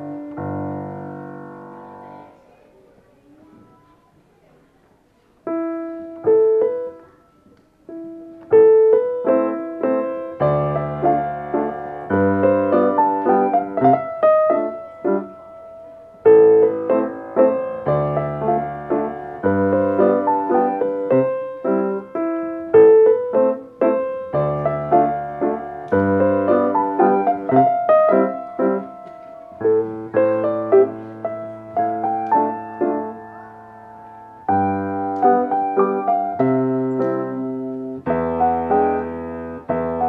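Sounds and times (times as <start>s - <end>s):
solo grand piano playing: 0.0s - 2.4s, 5.4s - 40.0s.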